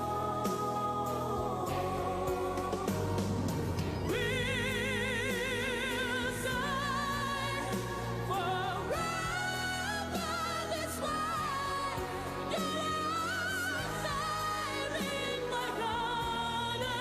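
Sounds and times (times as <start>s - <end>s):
instrumental backing: 0.0s - 17.0s
person singing with vibrato: 0.0s - 17.0s.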